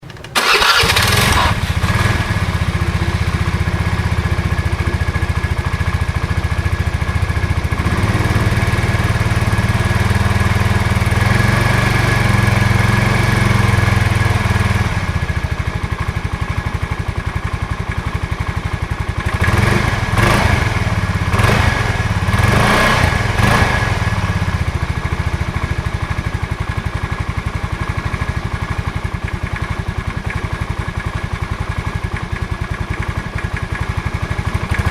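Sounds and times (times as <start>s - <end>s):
scooter engine idling: 0.0s - 34.9s.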